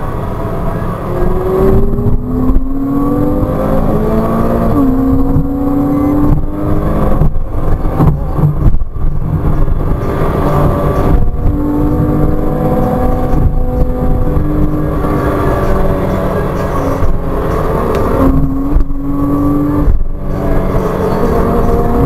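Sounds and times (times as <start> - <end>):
car engine revving: 0.0 - 22.0
tyre and road noise: 0.0 - 22.0.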